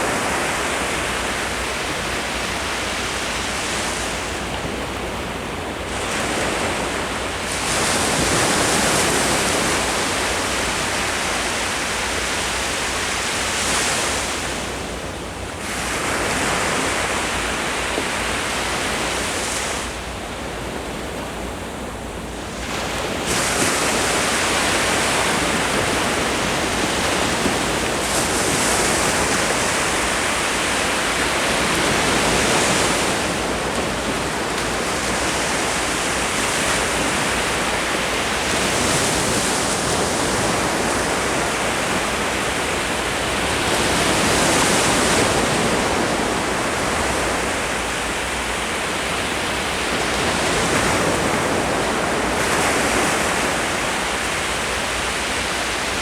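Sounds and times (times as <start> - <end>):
ocean waves on beach: 0.0 - 56.0.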